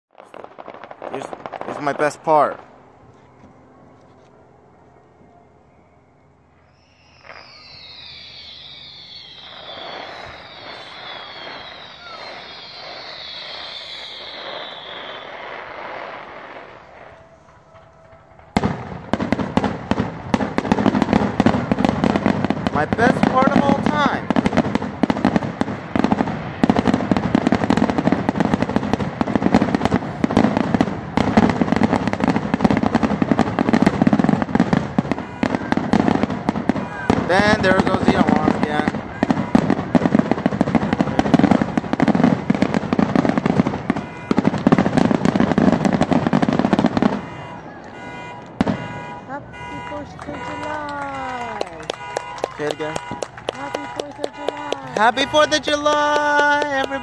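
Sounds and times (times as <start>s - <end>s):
dense firework crackling: 0.1s - 2.8s, 6.6s - 57.0s
firework shot: 0.1s - 2.8s, 6.6s - 57.0s
descending firework whistles: 5.2s - 22.4s, 23.0s - 57.0s.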